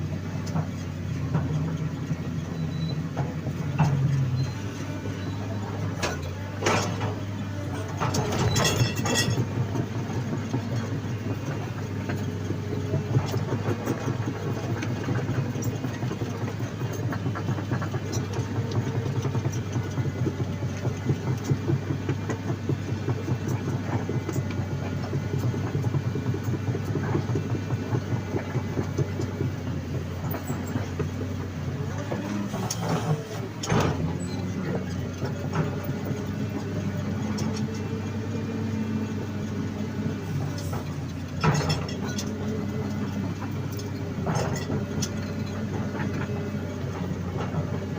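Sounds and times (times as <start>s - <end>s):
excavator diesel engine running: 0.0s - 47.9s
steel tracks clanking: 0.2s - 47.9s.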